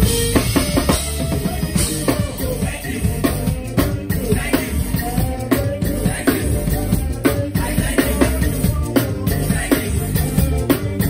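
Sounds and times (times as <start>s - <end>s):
acoustic drum kit playing: 0.0s - 11.0s
band music: 0.0s - 11.0s.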